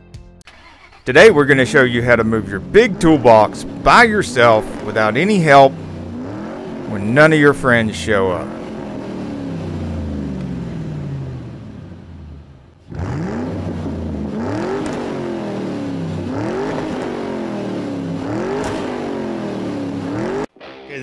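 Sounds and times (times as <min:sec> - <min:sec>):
car engine revving: 0:00.5 - 0:20.5.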